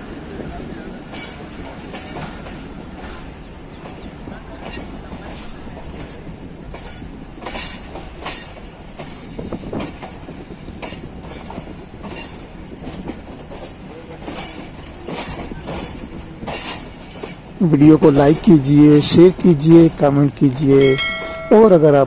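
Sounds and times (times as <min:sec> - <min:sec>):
train wheels rumbling: 0:00.0 - 0:22.0
wheels clacking over rail joints: 0:00.1 - 0:22.0.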